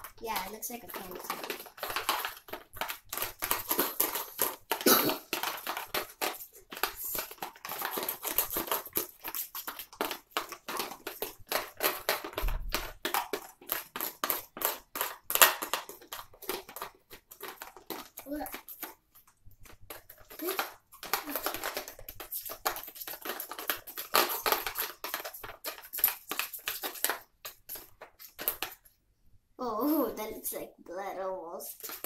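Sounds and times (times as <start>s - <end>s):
spoons scraping plastic containers: 0.0s - 28.9s, 31.6s - 32.0s.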